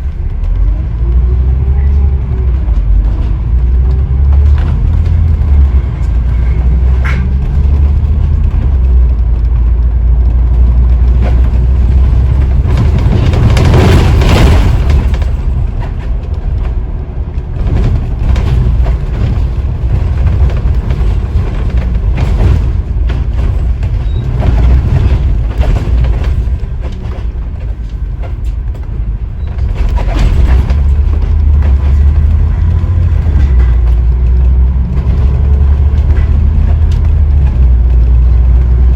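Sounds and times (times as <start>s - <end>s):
body rattles: 0.0s - 38.9s
bus diesel engine: 0.0s - 38.9s
rushing noise: 0.0s - 38.9s.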